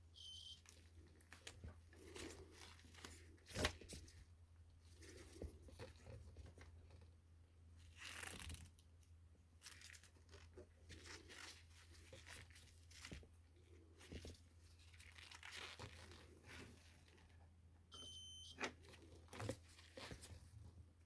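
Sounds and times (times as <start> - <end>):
low steady hum: 0.0 - 21.0
rustling and crinkling: 0.6 - 7.2, 7.8 - 17.5, 18.6 - 20.9.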